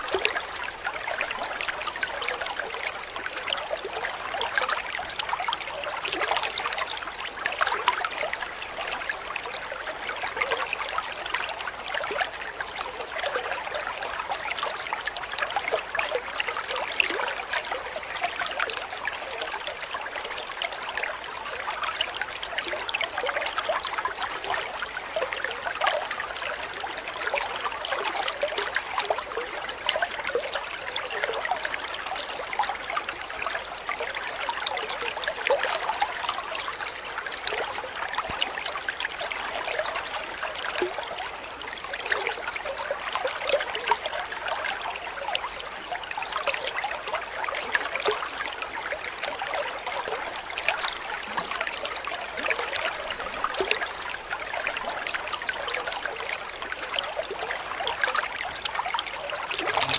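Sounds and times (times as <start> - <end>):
water trickling over stones: 0.0 - 59.9.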